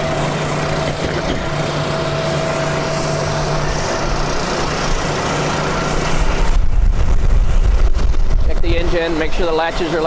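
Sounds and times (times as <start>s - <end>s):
machinery drone: 0.0s - 10.0s.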